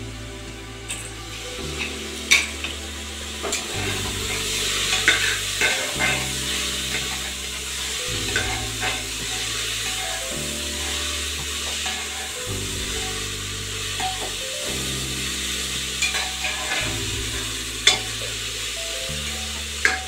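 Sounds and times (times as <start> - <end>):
vegetables sizzling in a pot: 0.0 - 20.0.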